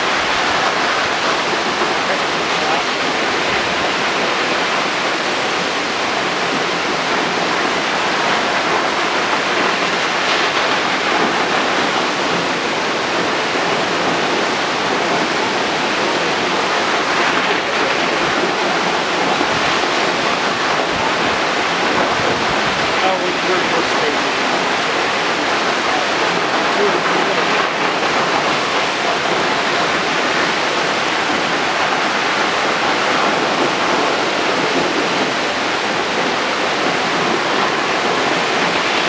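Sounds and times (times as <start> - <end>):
waterfall rushing onto rocks: 0.0 - 39.0.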